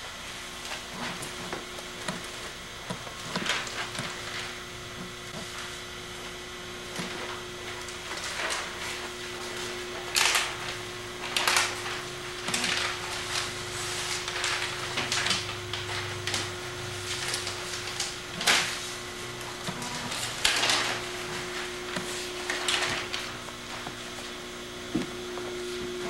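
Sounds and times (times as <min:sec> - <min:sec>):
electrical hum: 0:00.0 - 0:26.0
newspaper pages rustling: 0:00.3 - 0:26.0.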